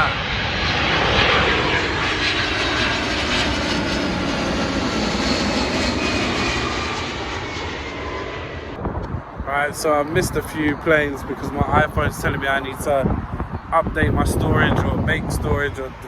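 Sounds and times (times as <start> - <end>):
jet plane passing low: 0.0 - 16.0.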